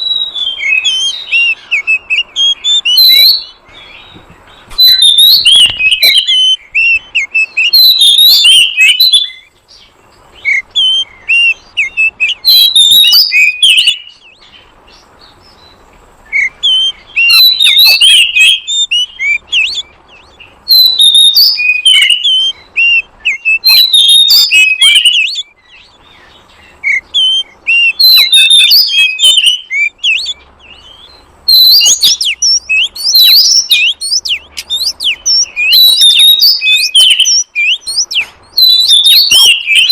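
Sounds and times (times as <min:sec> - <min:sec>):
bird song whistles and chattering: 0:00.0 - 0:39.9.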